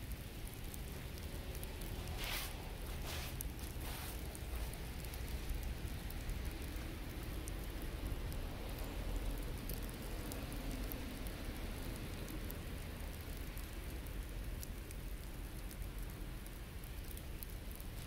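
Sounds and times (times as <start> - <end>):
hiss of wet snow falling: 0.0 - 18.0
faint ticks: 3.3 - 18.0.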